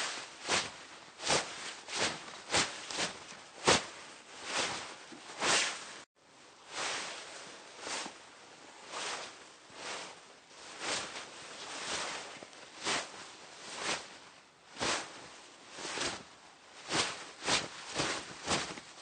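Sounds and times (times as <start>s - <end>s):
fabric rustling and swishing: 0.0s - 19.0s.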